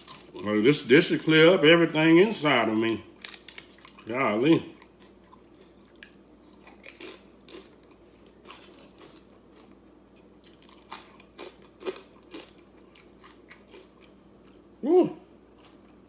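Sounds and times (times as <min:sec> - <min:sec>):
tortilla chips being chewed: 0:00.0 - 0:00.9, 0:03.2 - 0:14.7, 0:15.5 - 0:16.0.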